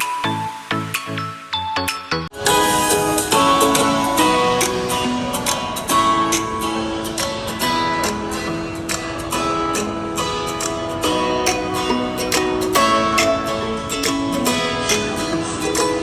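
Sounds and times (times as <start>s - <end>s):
strummed guitar: 2.3s - 16.0s.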